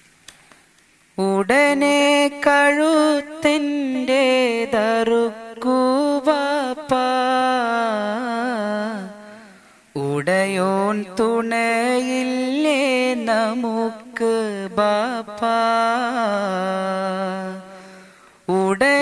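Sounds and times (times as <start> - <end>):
man singing solo: 1.2 - 17.9, 18.5 - 19.0.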